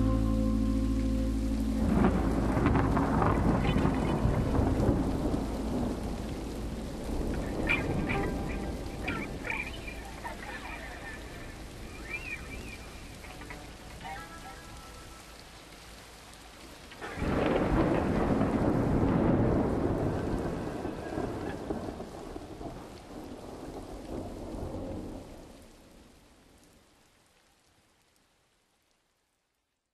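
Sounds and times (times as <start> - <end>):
thunder rumbling: 0.0 - 25.6.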